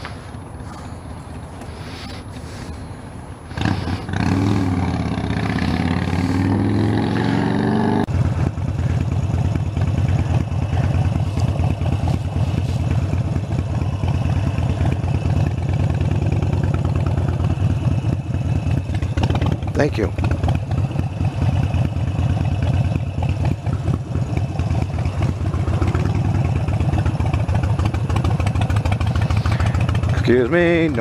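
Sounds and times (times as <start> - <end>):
motorcycle engine revving: 3.4 - 31.0.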